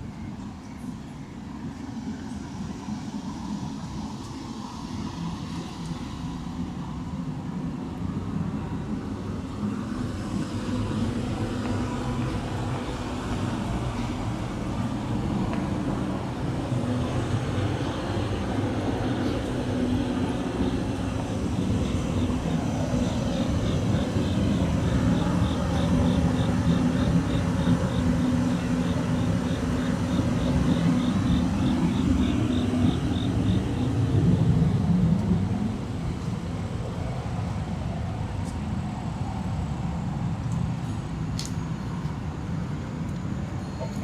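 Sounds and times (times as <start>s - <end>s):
traffic rumble: 0.0s - 44.0s.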